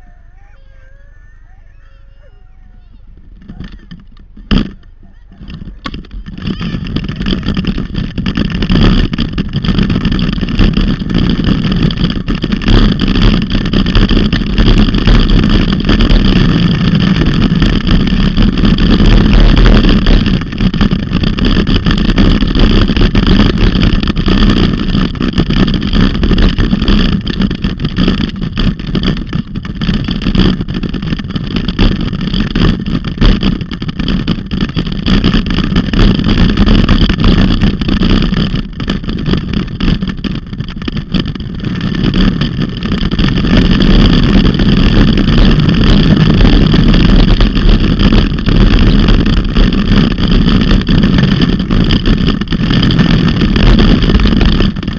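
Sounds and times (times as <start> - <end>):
wheels rumbling over ground: 0.0 - 54.9
wind buffeting microphone: 2.6 - 54.9.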